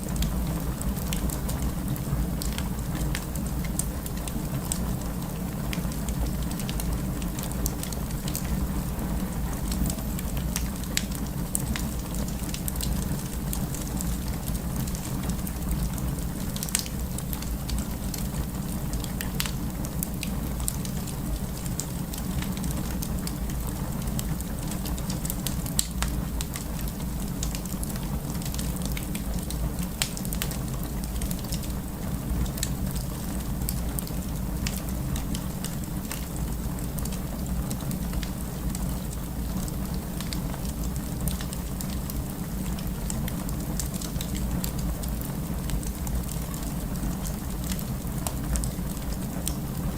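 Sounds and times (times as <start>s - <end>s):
fire crackling and popping: 0.0s - 49.9s
wood fire rumbling: 0.0s - 49.9s.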